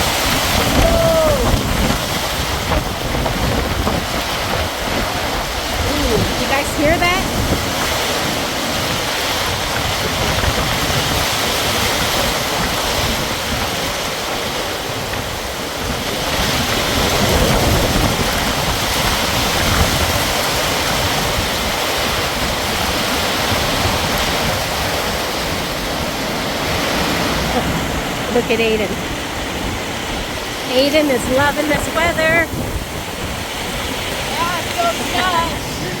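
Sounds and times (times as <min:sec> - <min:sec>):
heavy rain pouring: 0:00.0 - 0:36.0
wind buffeting microphone: 0:00.0 - 0:36.0.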